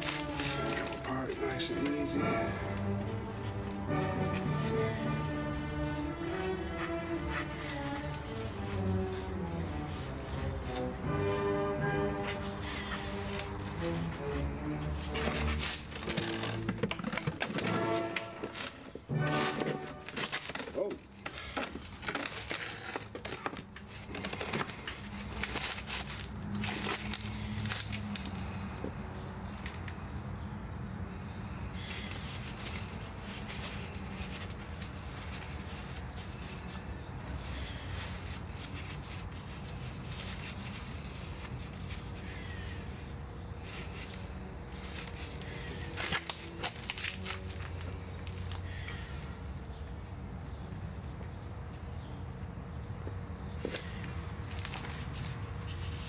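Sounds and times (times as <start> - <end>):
crinkling and rustling: 0.0 - 10.9, 12.1 - 28.8, 31.8 - 42.8, 43.6 - 49.1, 53.6 - 56.0.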